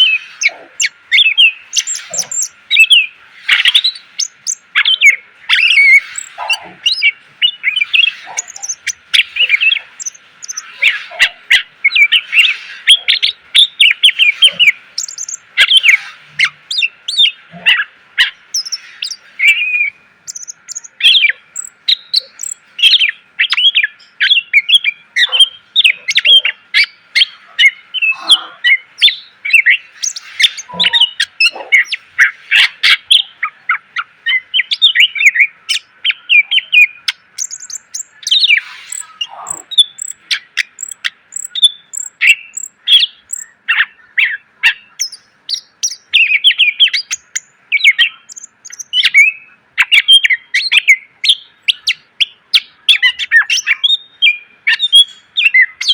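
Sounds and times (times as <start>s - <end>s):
bird singing rapid chirps and trills: 0.0s - 55.9s.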